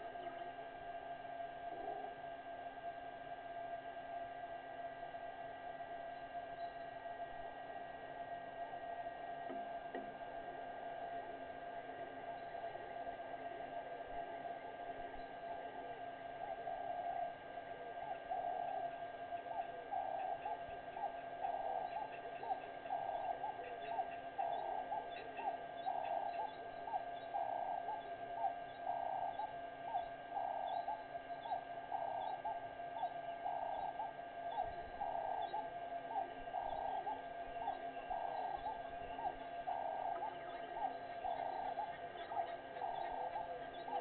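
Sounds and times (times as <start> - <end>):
constant steady hum: 0.0 - 44.0
chorus of animal calls: 4.8 - 44.0.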